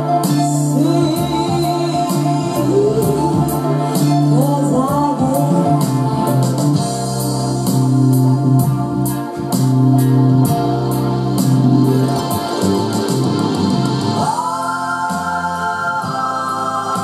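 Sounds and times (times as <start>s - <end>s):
pop song with singing: 0.0s - 10.6s, 11.4s - 17.0s.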